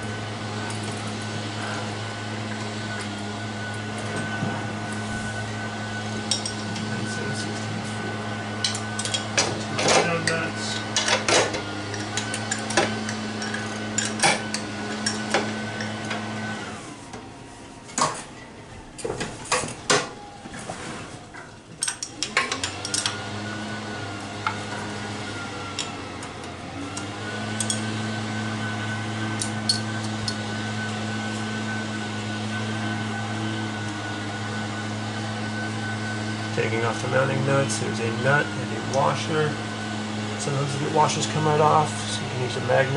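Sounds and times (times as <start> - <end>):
machine hum with high whine: 0.0 - 42.9.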